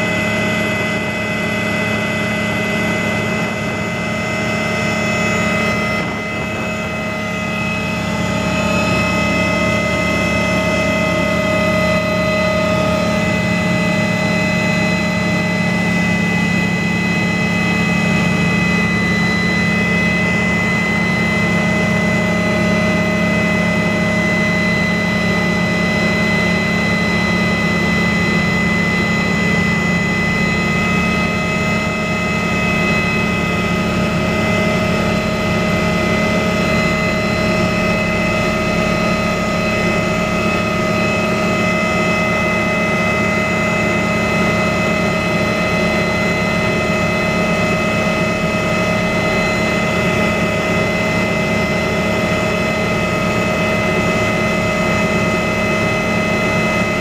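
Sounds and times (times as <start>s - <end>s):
high whine over low hum: 0.0s - 57.0s
small aircraft propellers in flight: 0.0s - 57.0s.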